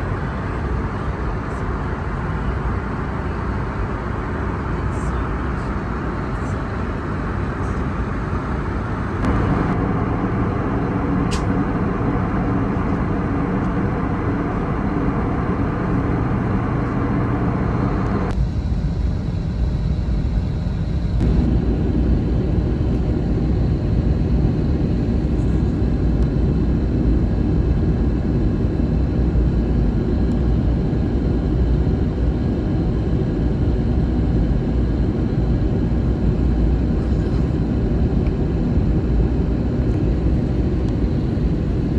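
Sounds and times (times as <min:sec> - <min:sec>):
airplane cabin engine noise: 0:00.0 - 0:41.9.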